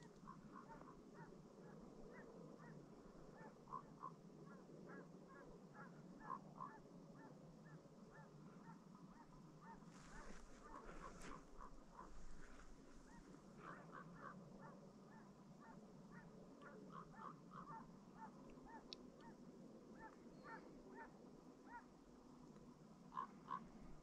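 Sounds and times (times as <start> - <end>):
distant geese honking: 0.0 - 22.0, 23.0 - 24.0.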